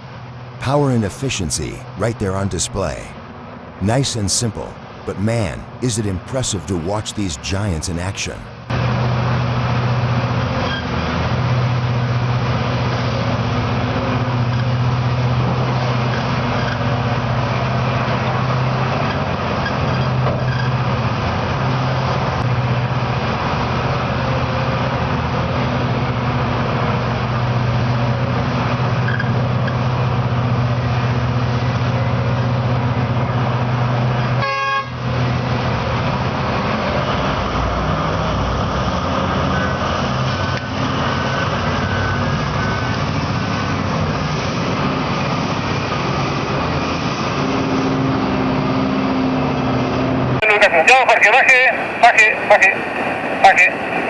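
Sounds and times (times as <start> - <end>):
heavy diesel engine drone: 0.0 - 54.0.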